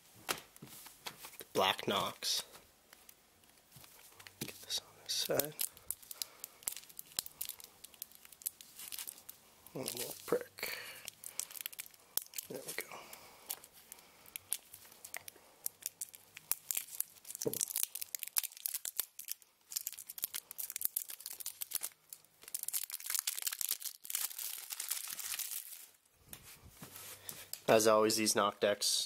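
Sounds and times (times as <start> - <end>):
cellophane crackling and crinkling: 1.2 - 26.2.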